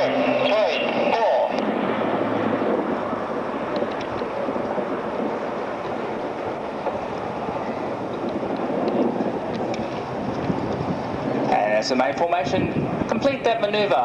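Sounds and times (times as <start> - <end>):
propeller planes flying past: 0.0 - 14.0.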